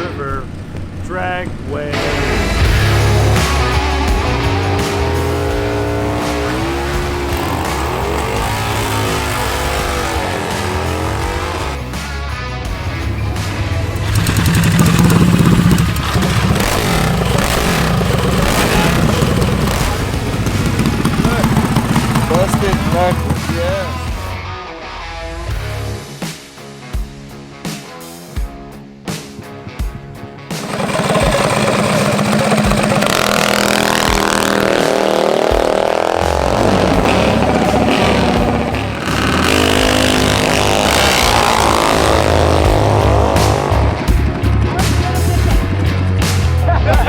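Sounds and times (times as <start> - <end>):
minibike engine at full throttle: 0.0 - 12.1, 12.7 - 24.3, 30.5 - 47.0.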